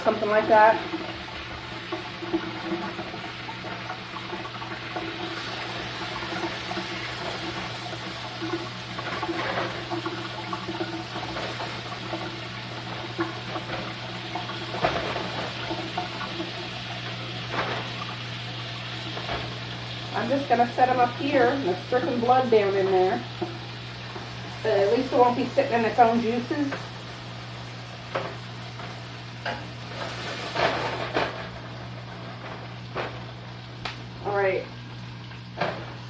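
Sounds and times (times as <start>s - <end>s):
patties sizzling in a frying pan: 0.0s - 36.0s.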